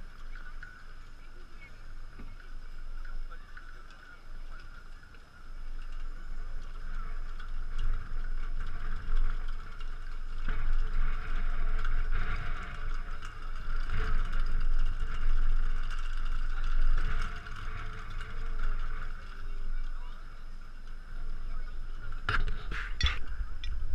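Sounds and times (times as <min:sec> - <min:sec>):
faint voices: 0:00.0 - 0:23.9.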